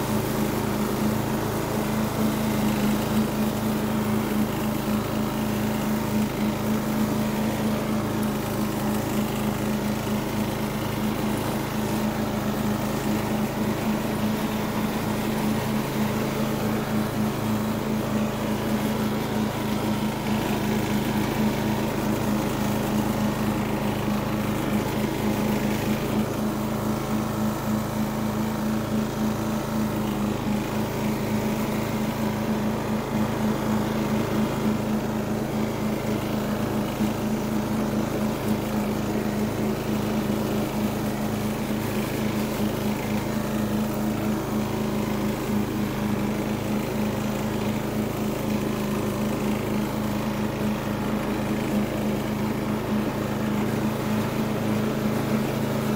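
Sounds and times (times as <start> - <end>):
riding lawn mower engine: 0.0 - 55.9.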